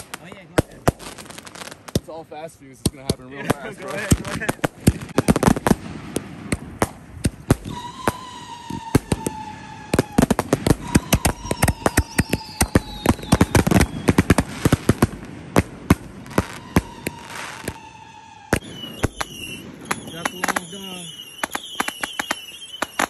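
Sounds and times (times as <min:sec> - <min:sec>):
fireworks shells firing rapidly: 0:00.0 - 0:23.0.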